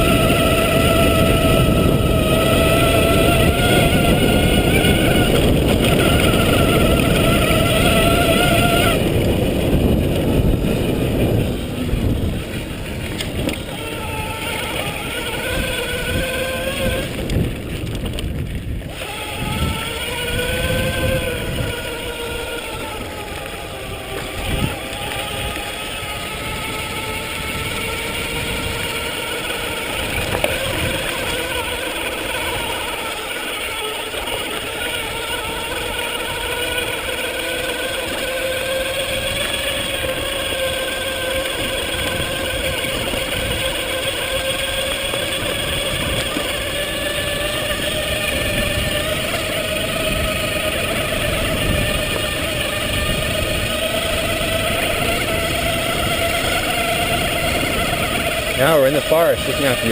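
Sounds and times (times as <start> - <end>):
electric bike motor whining: 0.0 - 59.9
wind and tyres rumbling: 0.0 - 59.9.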